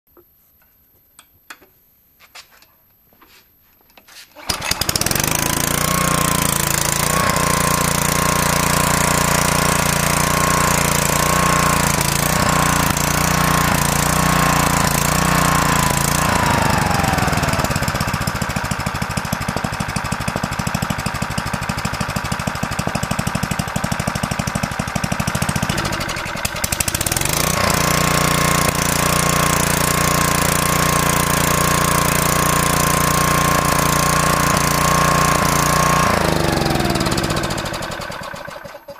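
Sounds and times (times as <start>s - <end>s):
pressure washer engine running: 4.4s - 38.9s.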